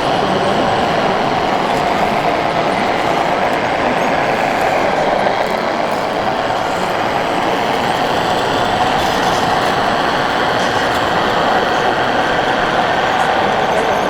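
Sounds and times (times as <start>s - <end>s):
model machine mechanical whir: 0.0s - 14.0s.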